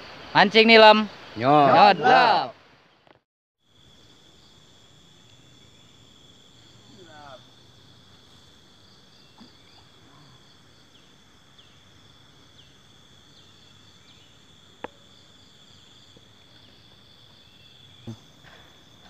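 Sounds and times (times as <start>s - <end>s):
insects trilling: 3.6s - 19.0s.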